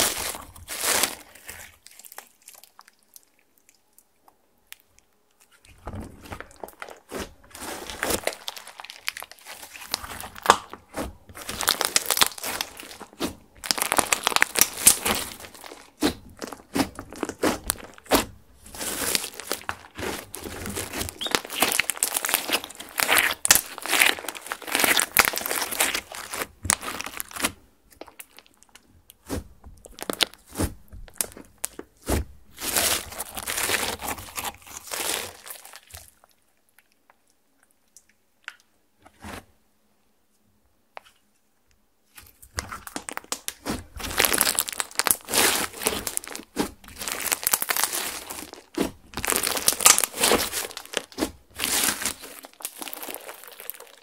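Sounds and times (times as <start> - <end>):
slime squishing and popping: 4.7 - 36.3, 42.2 - 54.0.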